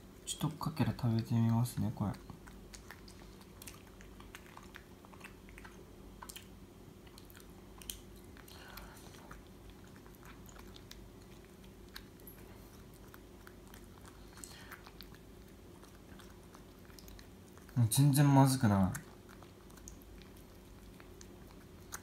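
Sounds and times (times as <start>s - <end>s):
faint low hum: 0.0s - 22.0s
quiet chewing: 0.0s - 22.0s.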